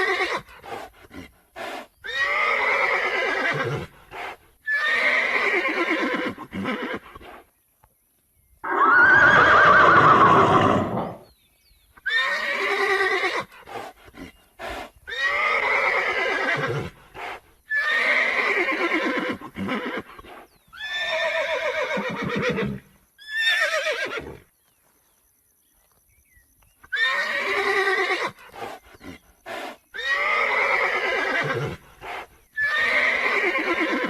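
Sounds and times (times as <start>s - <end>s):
horses whinnying: 0.0s - 7.4s, 8.6s - 11.3s, 12.0s - 24.5s, 26.8s - 34.0s.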